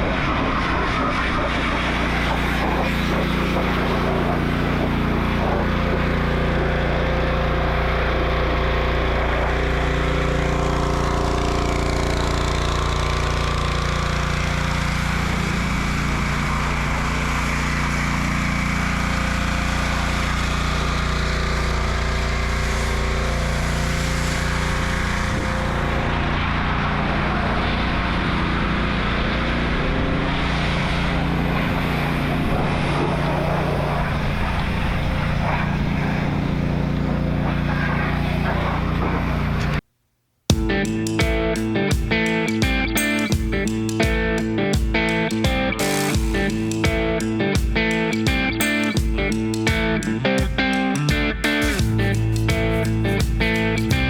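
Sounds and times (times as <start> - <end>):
engine running: 0.0 - 39.8, 40.5 - 54.0.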